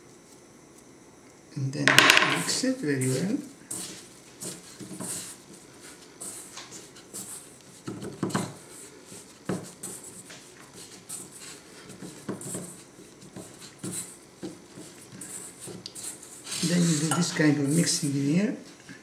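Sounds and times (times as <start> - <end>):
hands mixing dough in metal bowl: 2.4 - 18.2.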